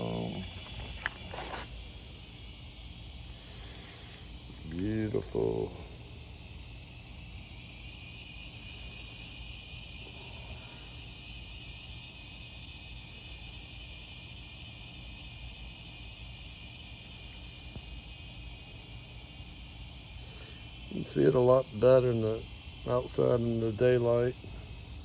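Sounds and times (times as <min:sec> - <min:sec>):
insect chorus chirring: 0:00.0 - 0:25.0.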